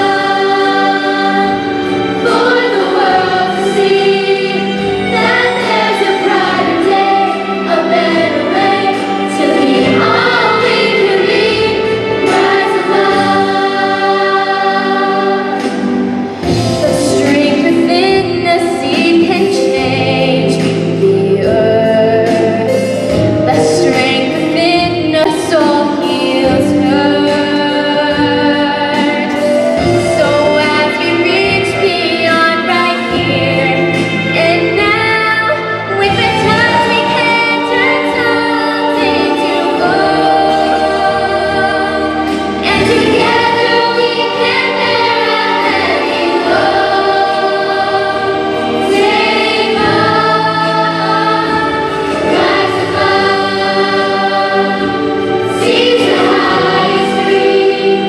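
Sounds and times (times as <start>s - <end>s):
children's choir singing: 0.0s - 58.0s
girl singing lead: 0.0s - 58.0s
musical accompaniment: 0.0s - 58.0s.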